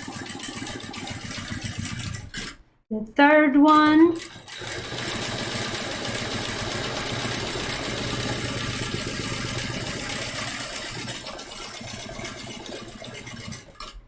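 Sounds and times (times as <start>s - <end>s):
sewing machine stitching rattle: 0.0s - 2.6s, 3.7s - 14.0s.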